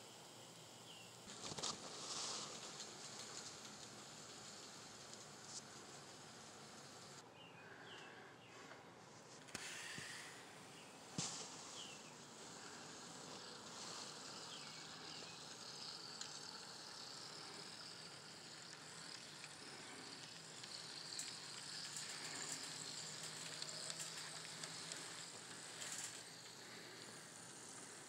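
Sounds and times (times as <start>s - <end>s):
model train hiss: 0.0s - 7.2s, 9.5s - 28.0s
model train wheels clicking: 0.0s - 7.2s, 9.5s - 28.0s.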